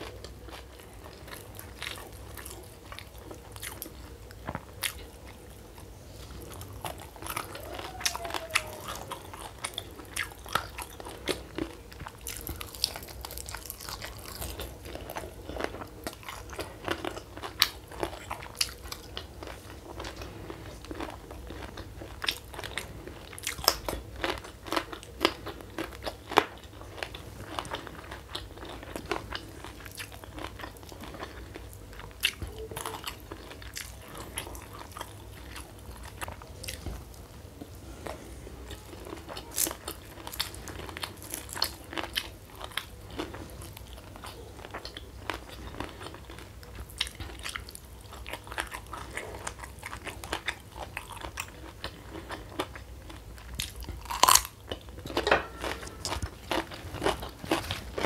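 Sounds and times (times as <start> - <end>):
chewing crispy food: 0.0 - 58.0.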